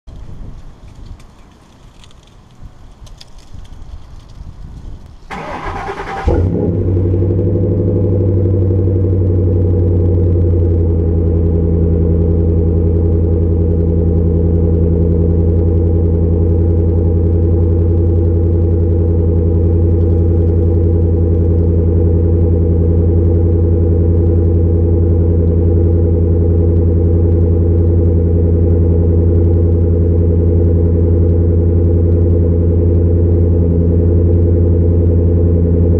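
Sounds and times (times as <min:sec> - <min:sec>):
deep engine idle: 0:05.3 - 0:35.9.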